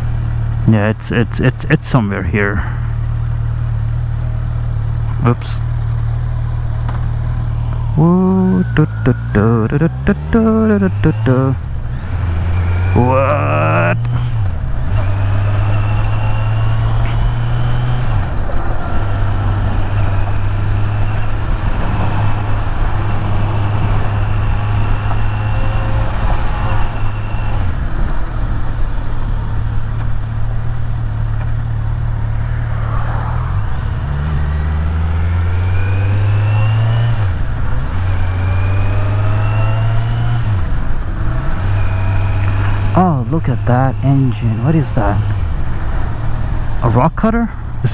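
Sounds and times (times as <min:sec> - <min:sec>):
wind and road noise: 0:00.0 - 0:47.9
motorcycle engine revving: 0:02.6 - 0:47.0.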